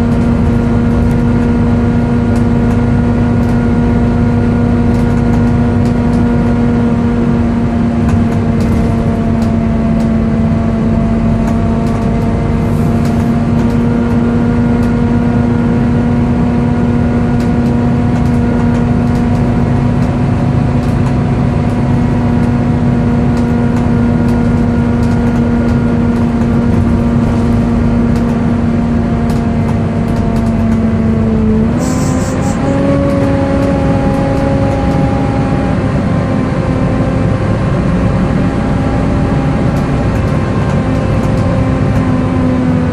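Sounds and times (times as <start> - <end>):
cooling fan whining: 0.0 - 42.9
low engine rumble: 0.0 - 42.9.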